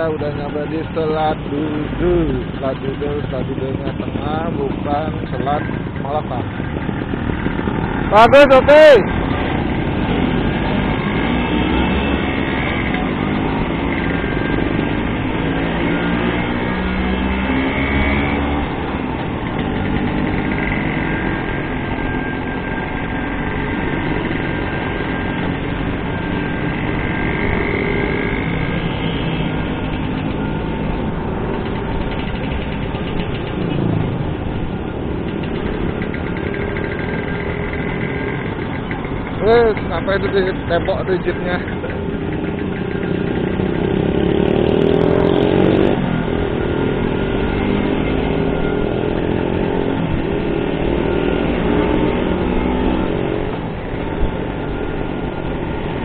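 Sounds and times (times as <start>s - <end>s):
road and wind noise: 0.0s - 56.0s
scooter engines running: 0.0s - 56.0s.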